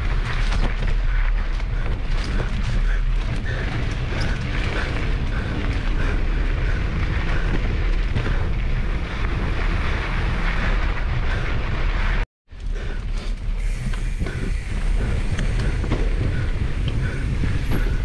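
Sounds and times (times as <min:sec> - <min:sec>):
wind on microphone: 0:00.0 - 0:12.2, 0:12.8 - 0:18.0
bike rattling over bumps: 0:00.0 - 0:18.0
bike tyres rumbling on dirt: 0:00.0 - 0:18.0.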